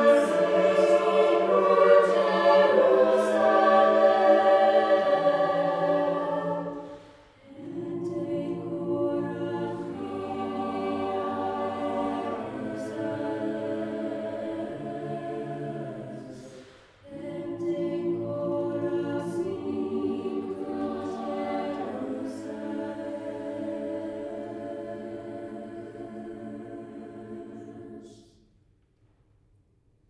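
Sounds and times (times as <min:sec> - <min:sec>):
choir singing a cappella: 0:00.0 - 0:28.6.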